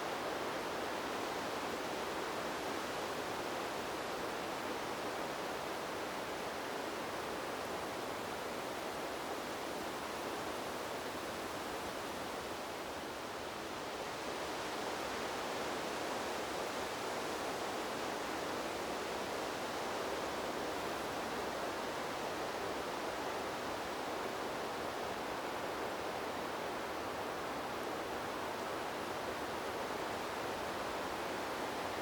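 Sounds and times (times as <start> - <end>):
wind rushing through trees: 0.0 - 32.0.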